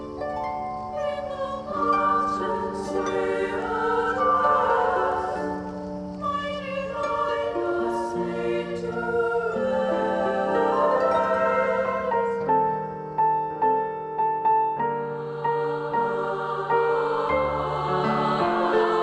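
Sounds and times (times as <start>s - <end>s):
choir singing sustained chords: 0.0s - 19.0s.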